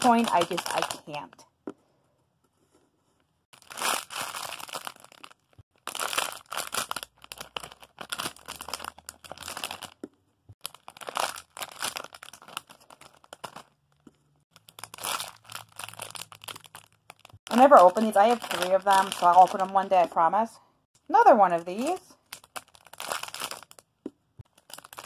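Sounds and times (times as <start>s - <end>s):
plastic bags crinkling: 0.0s - 1.4s, 3.6s - 10.0s, 10.6s - 20.2s, 21.7s - 23.9s, 24.5s - 25.0s.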